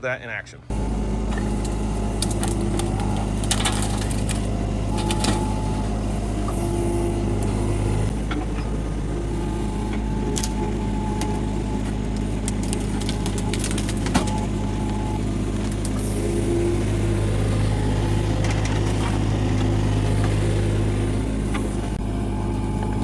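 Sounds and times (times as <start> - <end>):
mini excavator engine running: 0.7 - 23.0.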